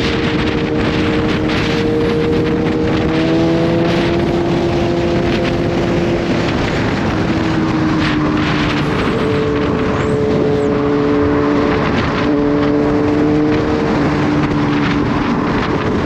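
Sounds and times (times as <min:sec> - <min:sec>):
motorcycle engine cruising: 0:00.0 - 0:16.0
wind rushing past microphone: 0:00.0 - 0:16.0.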